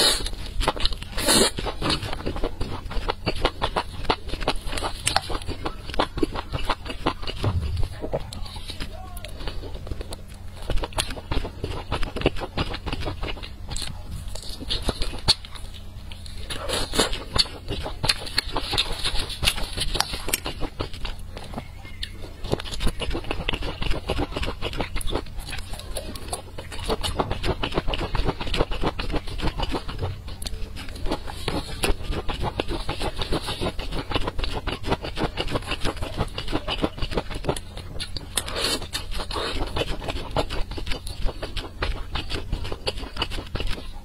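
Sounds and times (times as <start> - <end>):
chewing and mouth clicks: 0.0 - 44.0.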